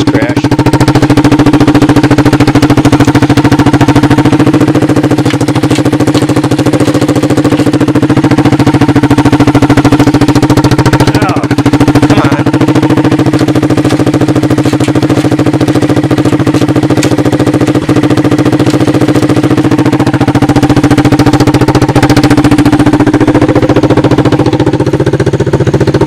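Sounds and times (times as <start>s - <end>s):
single-cylinder engine running: 0.0s - 26.0s.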